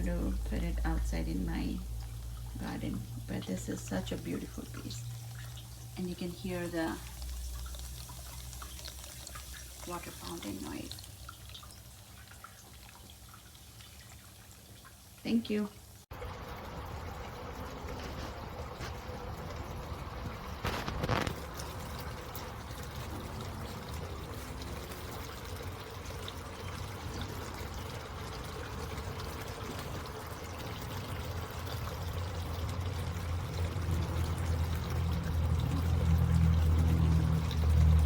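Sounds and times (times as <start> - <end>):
water trickling in fountain: 0.0 - 38.0.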